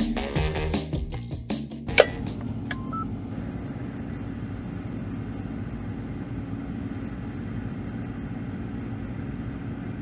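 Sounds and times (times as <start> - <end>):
steady low hum: 1.8 - 10.0.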